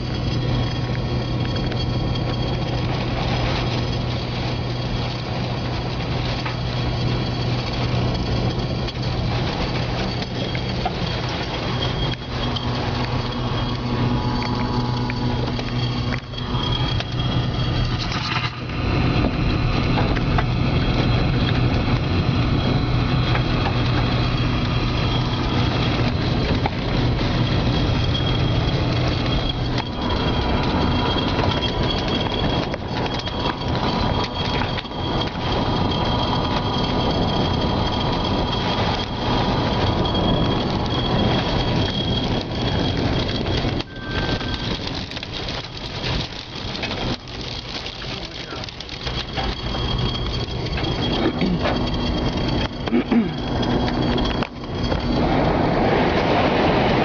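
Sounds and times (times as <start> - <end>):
strong wind rushing over microphone: 0.0 - 57.0.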